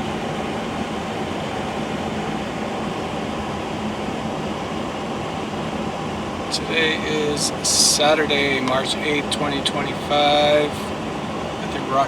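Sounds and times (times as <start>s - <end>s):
idling vehicle low hum: 0.0s - 12.0s.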